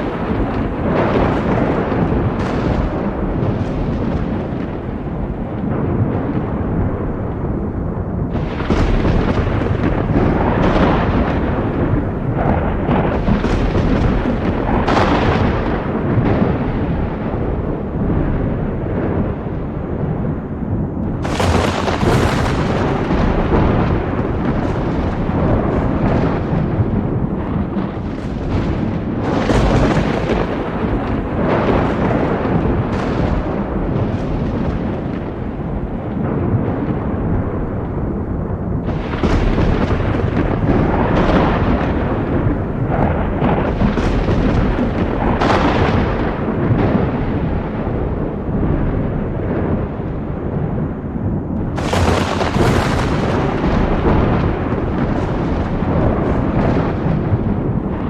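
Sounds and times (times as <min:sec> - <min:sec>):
crackling thunder peal: 0:00.0 - 0:58.0
thunder rumbling: 0:00.0 - 0:58.0.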